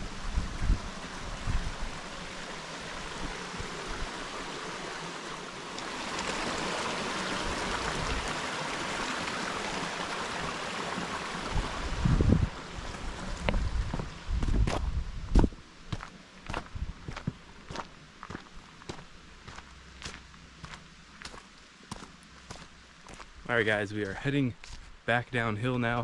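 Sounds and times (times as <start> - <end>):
mountain stream rushing: 0.0 - 14.8, 15.4 - 24.8.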